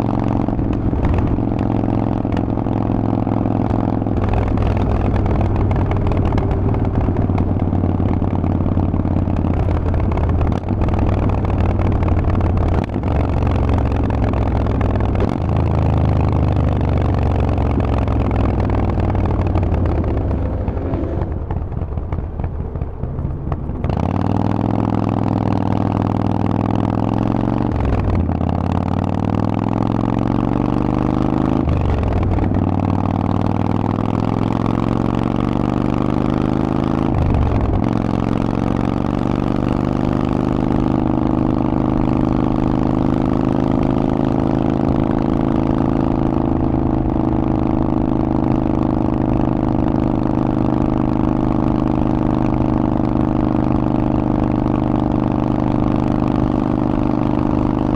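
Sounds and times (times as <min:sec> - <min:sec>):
motorcycle engine shifting up gears: 0:00.0 - 0:57.9.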